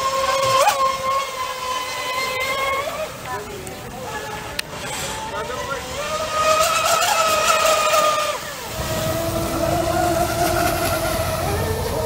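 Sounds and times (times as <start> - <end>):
electric speedboat whining: 0.0 - 12.0
low rough rumble: 2.2 - 12.0.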